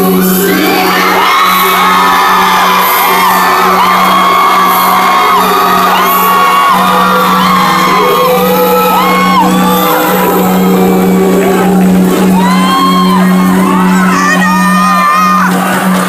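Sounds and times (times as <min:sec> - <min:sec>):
live music over sound system: 0:00.0 - 0:16.0.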